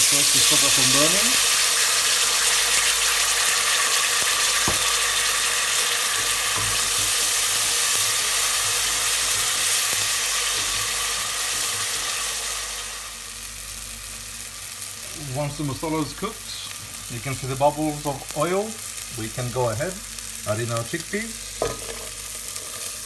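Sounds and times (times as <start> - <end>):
sauce sizzling in hot oil: 0.0 - 23.0.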